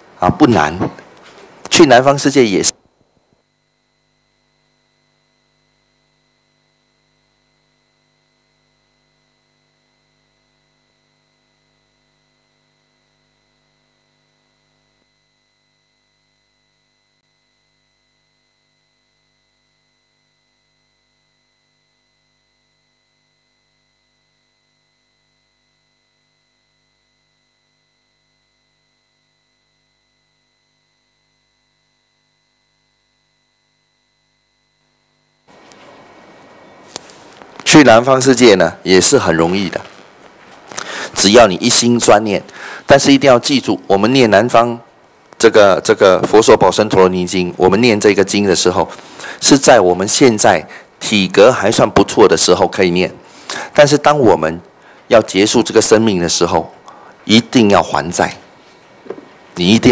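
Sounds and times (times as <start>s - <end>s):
faint hum and hiss: 0.0s - 59.9s.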